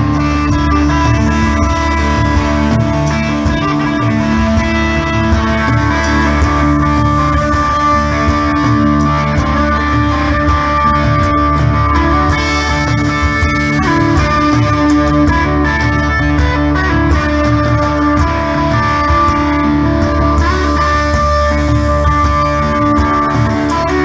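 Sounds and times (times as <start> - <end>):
drums: 0.0 - 24.0
electric guitar playing blues-rock: 0.0 - 24.0.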